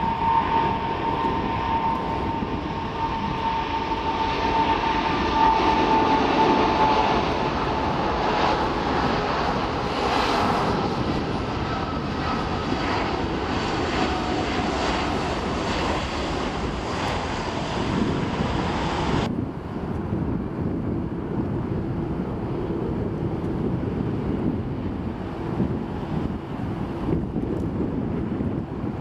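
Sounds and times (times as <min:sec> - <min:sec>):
jet engines roaring: 0:00.0 - 0:29.0
low jet engine rumble: 0:00.0 - 0:29.0.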